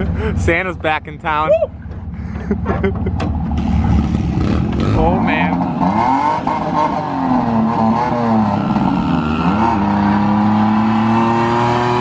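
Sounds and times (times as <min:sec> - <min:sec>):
car engine revving: 0:01.9 - 0:12.0.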